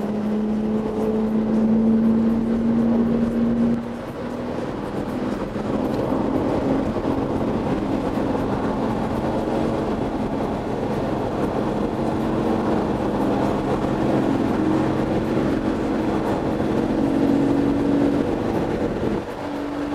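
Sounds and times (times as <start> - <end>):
sports car engine drone: 0.0 - 19.9.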